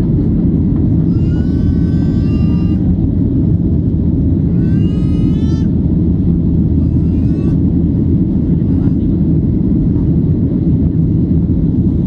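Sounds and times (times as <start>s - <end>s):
jet engine low rumble: 0.0s - 12.0s.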